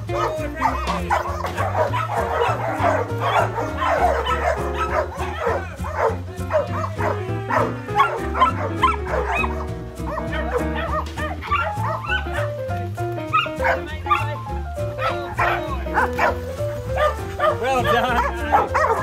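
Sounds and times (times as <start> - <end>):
dogs barking and yipping: 0.0 - 19.0
music with bass line: 0.0 - 19.0.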